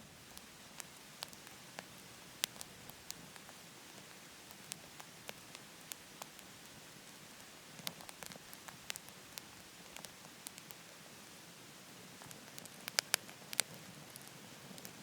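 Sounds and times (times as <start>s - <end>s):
steady hiss: 0.0s - 15.0s
wood fire crackling: 0.0s - 15.0s.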